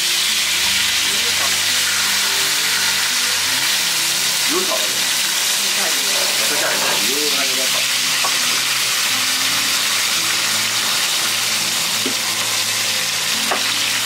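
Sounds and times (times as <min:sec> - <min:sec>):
oil sizzling in frying pan: 0:00.0 - 0:14.0.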